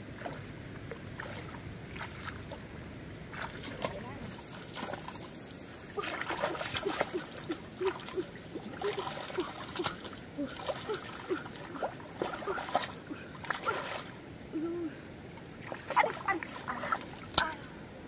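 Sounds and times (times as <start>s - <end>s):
water splashing in a puddle: 0.2s - 2.6s, 3.3s - 14.2s, 15.6s - 17.7s.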